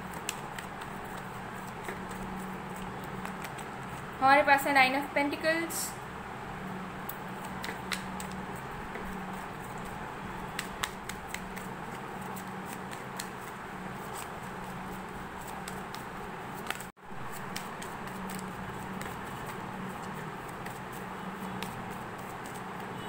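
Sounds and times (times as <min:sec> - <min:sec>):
cards clicking and rustling: 0:00.0 - 0:04.0, 0:07.1 - 0:22.8.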